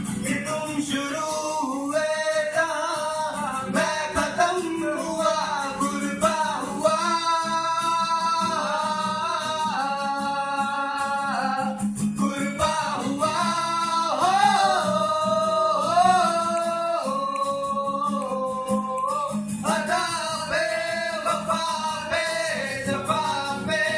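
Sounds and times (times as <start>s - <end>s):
guitar: 0.0s - 23.9s.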